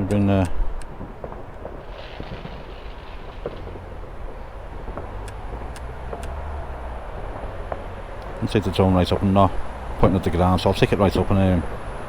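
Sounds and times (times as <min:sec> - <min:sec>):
distant fireworks popping: 0:00.0 - 0:12.0
low urban rumble: 0:00.0 - 0:12.0.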